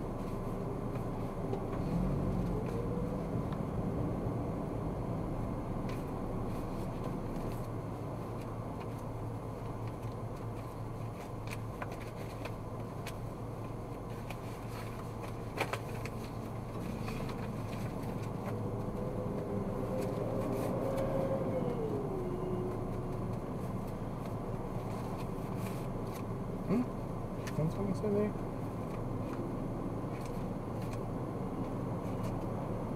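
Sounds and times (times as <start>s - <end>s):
engine and tyre rumble: 0.0s - 32.9s.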